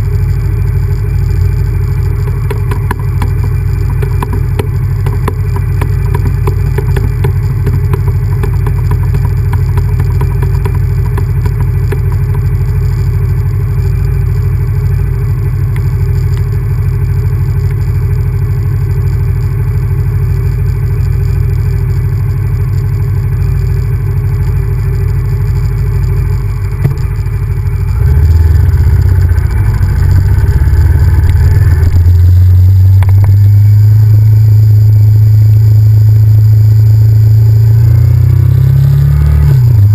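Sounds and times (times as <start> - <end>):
motorcycle engine low rumble: 0.0 - 39.9.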